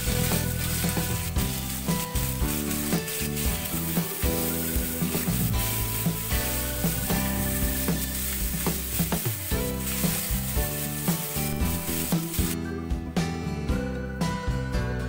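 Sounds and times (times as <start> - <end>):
chilli sizzling in hot oil: 0.0 - 12.6.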